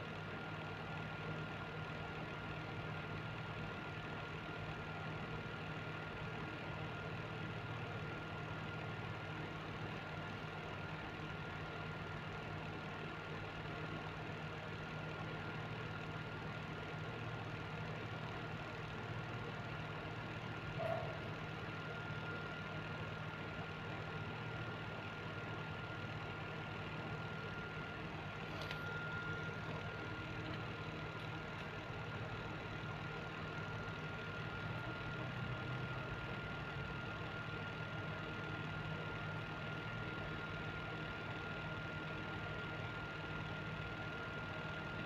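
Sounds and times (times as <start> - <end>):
motor hum with high whine: 0.0 - 45.0.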